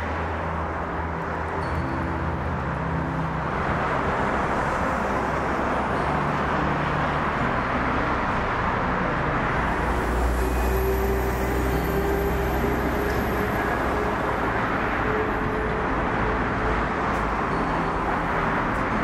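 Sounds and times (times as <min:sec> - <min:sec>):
cars passing: 0:00.0 - 0:19.0
heavy vehicle engine drone: 0:00.0 - 0:19.0.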